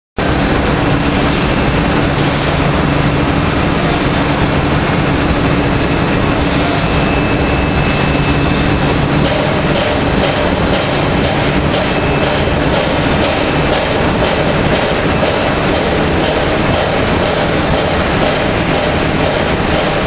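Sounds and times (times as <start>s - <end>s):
conveyor belts clattering: 0.2s - 20.0s
low machine hum: 0.2s - 20.0s.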